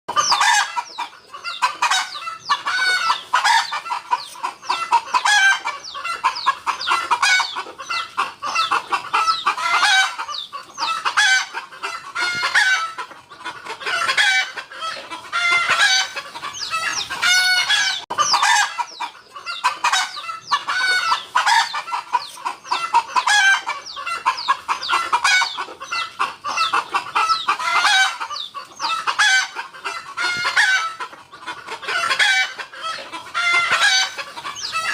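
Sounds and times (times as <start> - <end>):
chickens clucking: 0.1 - 34.9.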